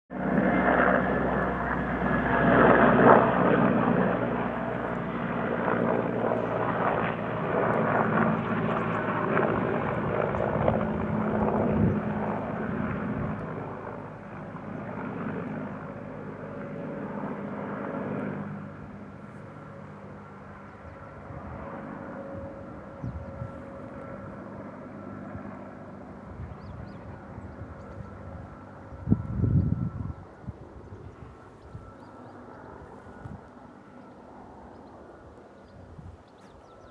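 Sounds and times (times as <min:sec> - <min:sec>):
helicopter flying over: 0:00.1 - 0:36.9.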